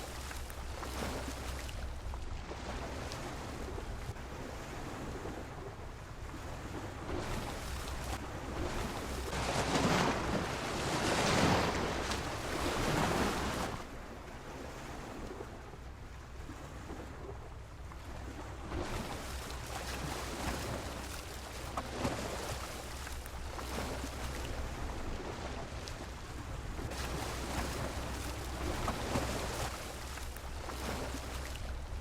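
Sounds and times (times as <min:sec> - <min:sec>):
sea waves breaking against pier: 0:00.0 - 0:32.0.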